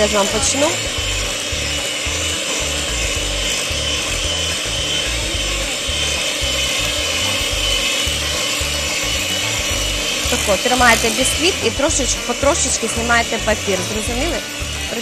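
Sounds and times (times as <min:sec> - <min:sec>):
electric hand mixer whipping: 0:00.0 - 0:15.0.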